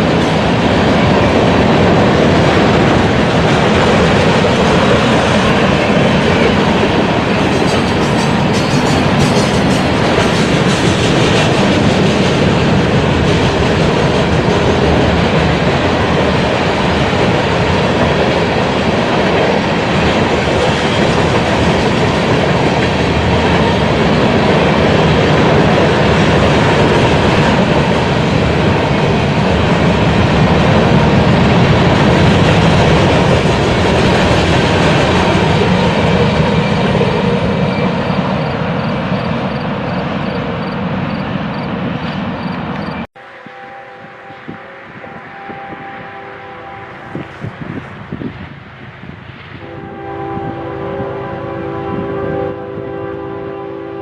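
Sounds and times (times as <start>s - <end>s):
freight train wheels rolling: 0.0s - 52.2s.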